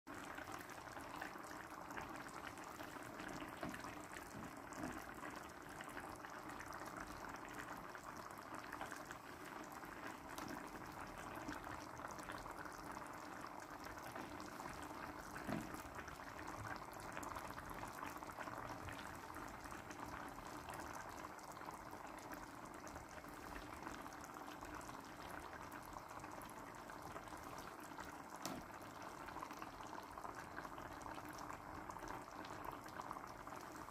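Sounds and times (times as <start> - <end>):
sauce bubbling in a pan: 0.1 - 33.9.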